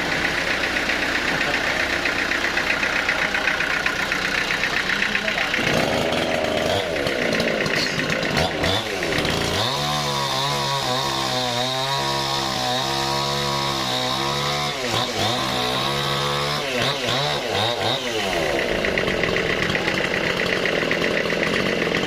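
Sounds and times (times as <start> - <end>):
engine saw cutting wood: 0.0 - 22.0.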